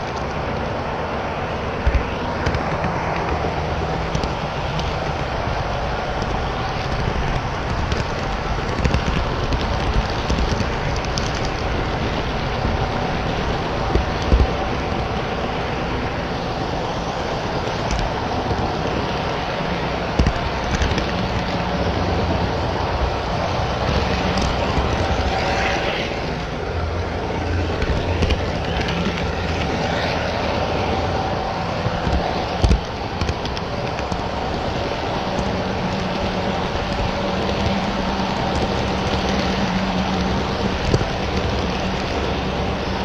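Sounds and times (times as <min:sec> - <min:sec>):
model train wheels rumbling: 0:00.0 - 0:43.0.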